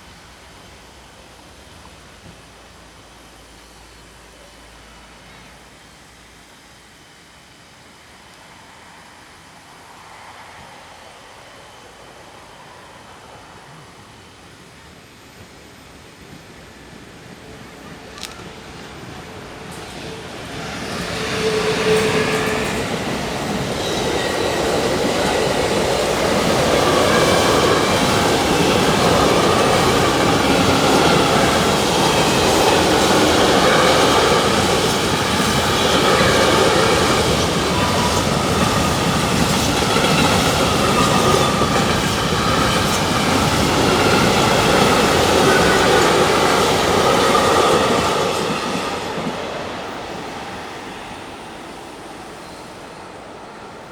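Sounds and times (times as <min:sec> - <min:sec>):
train wheels rattling on rails: 0:10.2 - 0:53.9.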